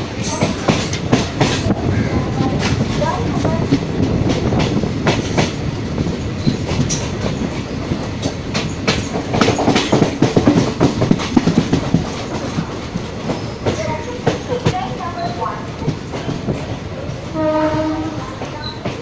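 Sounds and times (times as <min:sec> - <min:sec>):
train wheels rumbling: 0:00.0 - 0:19.0
wheels clattering over rail joints: 0:00.0 - 0:19.0.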